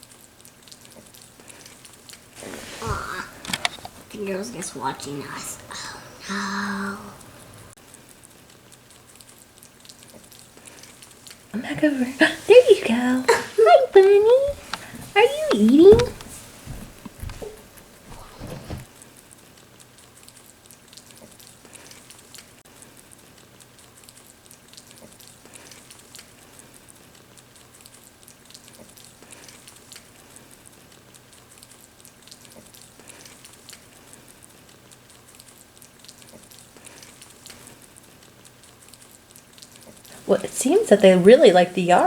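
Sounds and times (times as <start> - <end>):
rabbits chewing greens: 0.0 - 42.0.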